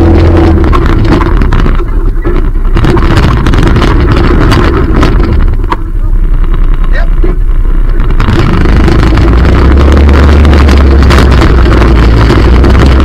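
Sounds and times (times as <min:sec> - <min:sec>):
knocks and rattles: 0:00.0 - 0:13.0
quad engine running: 0:00.0 - 0:13.0.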